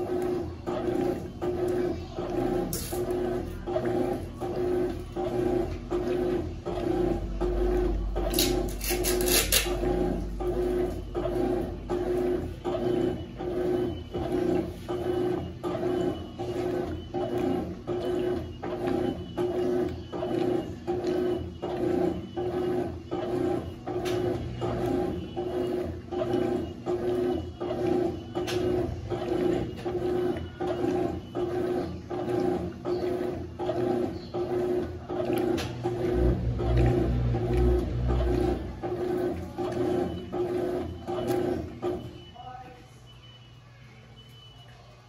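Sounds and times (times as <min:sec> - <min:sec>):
washing machine motor pulsing: 0:00.0 - 0:45.0.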